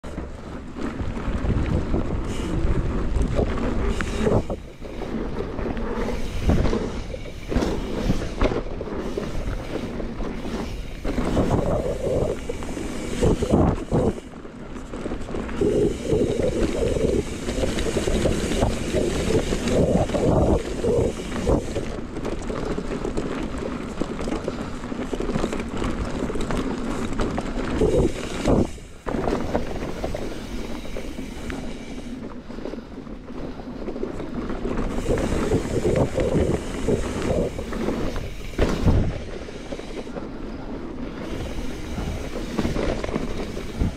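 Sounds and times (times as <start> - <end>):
bike knocks and rattles: 0.0 - 32.0, 33.5 - 40.6
wind buffeting microphone: 0.0 - 32.2, 34.1 - 43.9
tyres rolling on dirt trail: 0.0 - 43.9.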